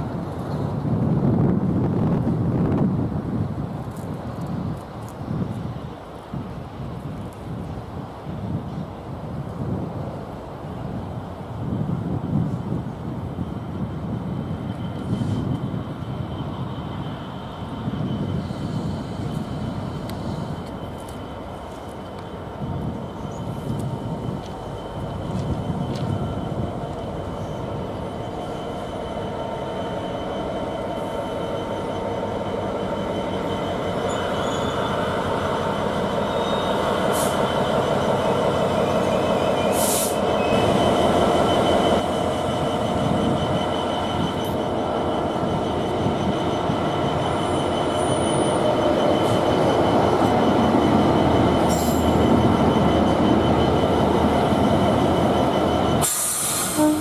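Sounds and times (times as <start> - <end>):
diesel locomotive engine: 0.0 - 57.0
steady high squeal: 10.6 - 57.0.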